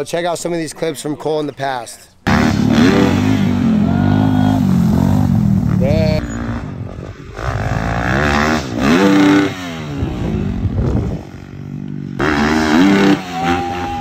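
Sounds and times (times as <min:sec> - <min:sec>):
dirt bike engine revving: 0:02.2 - 0:14.0.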